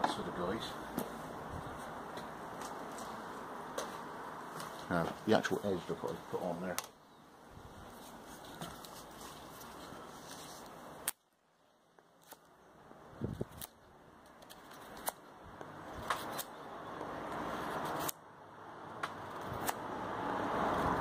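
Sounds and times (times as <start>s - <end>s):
background noise: 0.0s - 21.0s.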